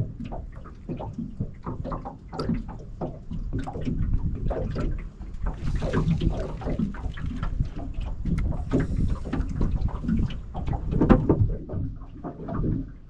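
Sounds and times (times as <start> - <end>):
water splashes: 0.0 - 13.0
wind rumbling on microphone: 0.0 - 13.0.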